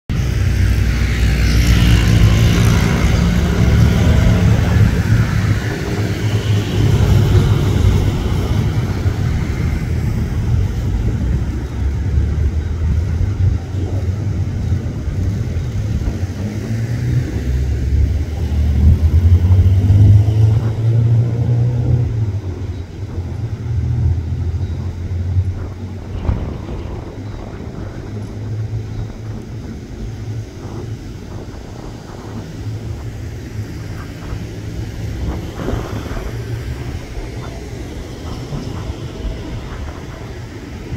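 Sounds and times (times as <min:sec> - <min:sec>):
low engine rumble: 0:00.1 - 0:40.9.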